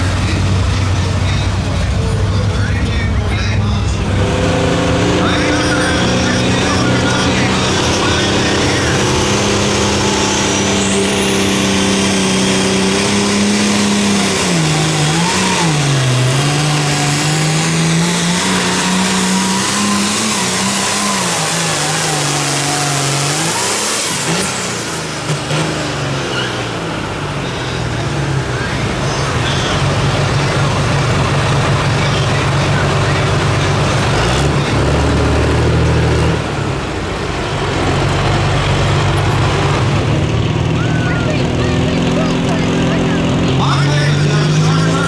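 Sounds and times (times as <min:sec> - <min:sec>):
engine running at full throttle: 0:00.0 - 0:45.0.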